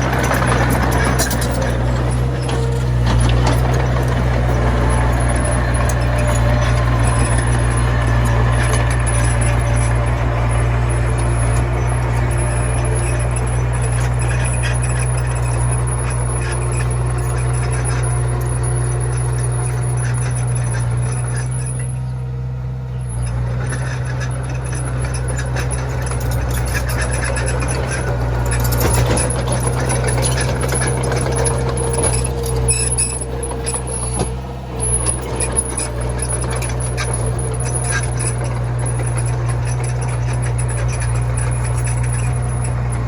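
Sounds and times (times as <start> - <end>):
metallic knocks and rattles: 0.0 - 21.6, 23.7 - 43.0
bulldozer diesel engine running: 0.0 - 43.0.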